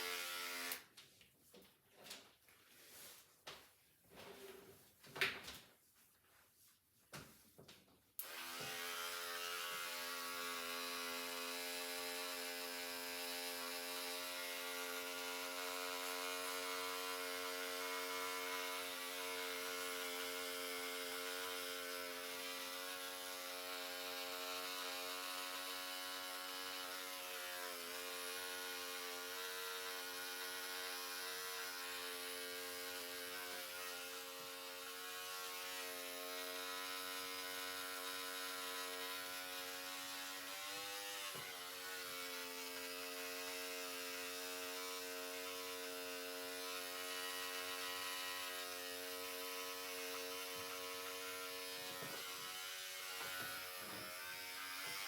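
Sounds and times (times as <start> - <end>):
electric hair clippers buzzing: 0.0 - 0.9, 8.2 - 55.0.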